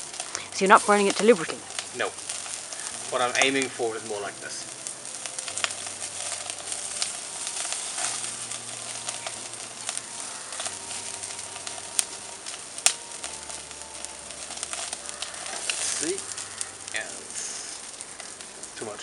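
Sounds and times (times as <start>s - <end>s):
chicken wings sizzling on grill: 0.0s - 19.0s.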